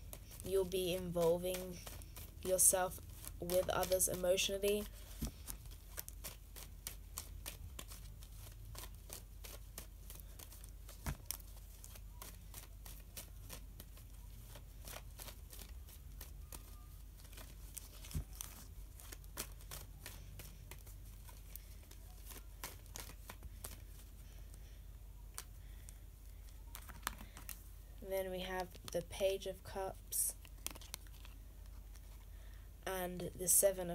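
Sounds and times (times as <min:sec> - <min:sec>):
cards being shuffled: 0:00.0 - 0:27.7, 0:28.4 - 0:32.3.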